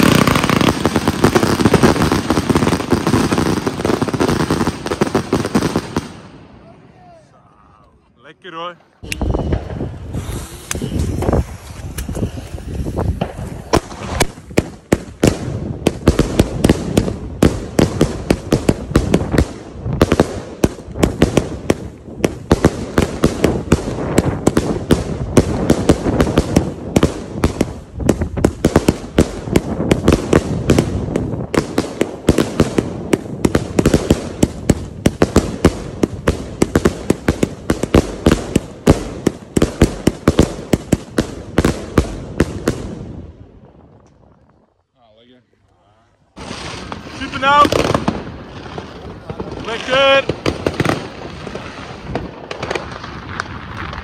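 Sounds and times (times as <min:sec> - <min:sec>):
firework shots and bangs: 0:00.0 - 0:06.5, 0:09.0 - 0:44.3, 0:46.4 - 0:54.0.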